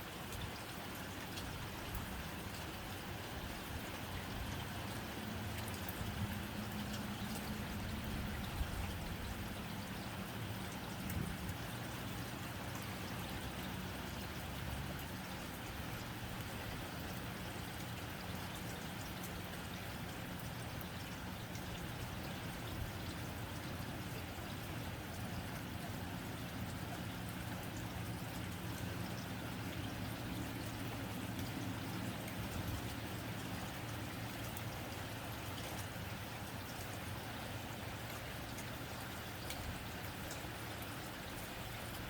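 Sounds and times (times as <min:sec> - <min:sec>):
rain on a tin roof: 0:00.0 - 0:42.0.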